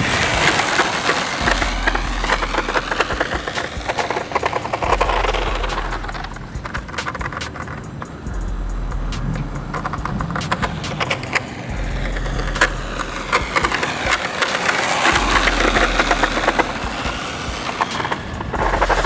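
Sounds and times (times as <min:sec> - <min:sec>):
rc car motor whine: 0:00.0 - 0:08.3, 0:09.5 - 0:19.0
crackling ticks: 0:00.0 - 0:19.0
tyre noise on asphalt: 0:00.0 - 0:19.0.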